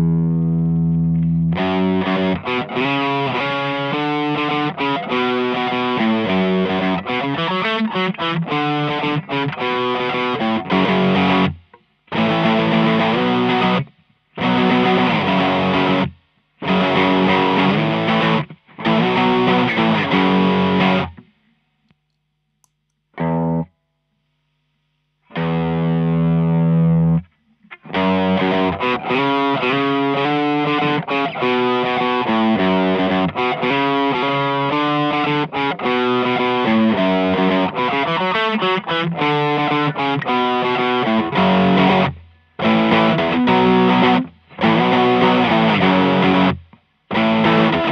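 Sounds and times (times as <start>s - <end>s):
overdriven electric guitar chords: 0.0s - 21.8s, 23.2s - 47.9s
faint amp hum: 0.0s - 47.9s.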